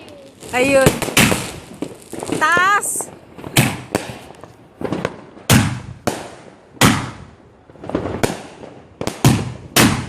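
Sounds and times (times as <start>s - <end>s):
fireworks bangs with rumbling echo: 0.0s - 10.0s.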